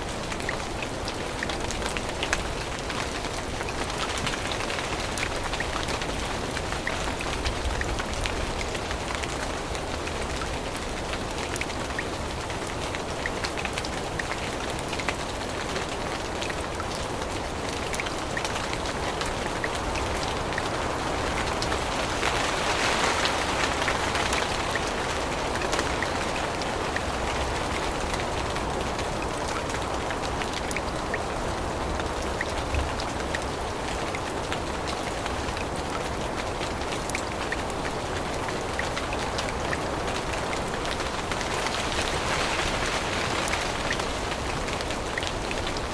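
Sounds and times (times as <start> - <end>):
rain dripping on leaves: 0.0 - 45.9.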